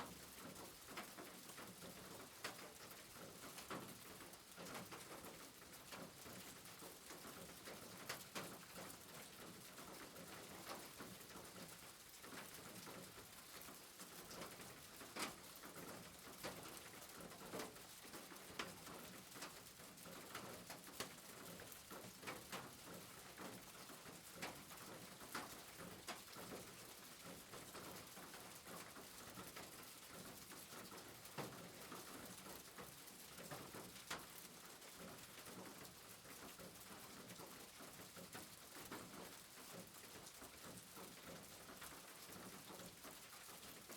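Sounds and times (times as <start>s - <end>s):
soft rain hiss: 0.0s - 43.9s.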